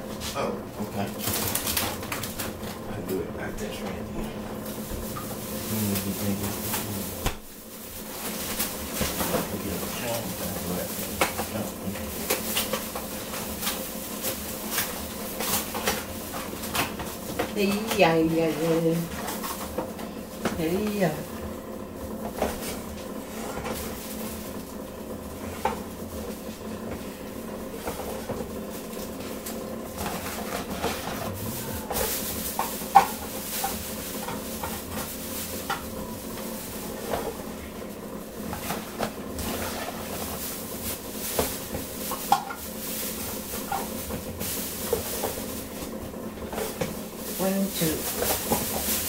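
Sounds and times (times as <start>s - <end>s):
steady hum: 0.0s - 49.0s.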